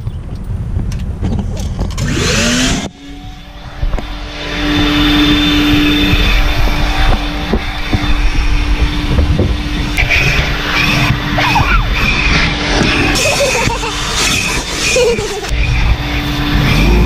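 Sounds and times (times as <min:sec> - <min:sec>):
vacuum droning hum: 0:01.9 - 0:17.0.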